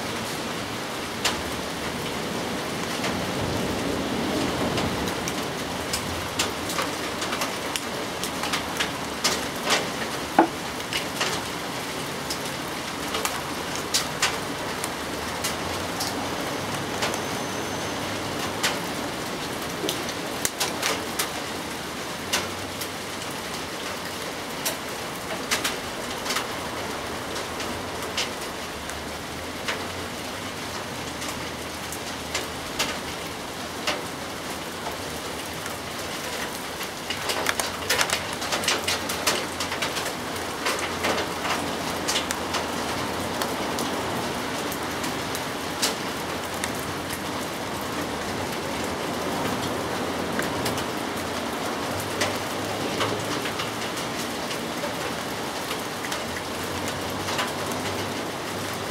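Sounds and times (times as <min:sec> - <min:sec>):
steady rain hiss: 0:00.0 - 0:58.9
raindrops tapping a surface: 0:00.1 - 0:58.9.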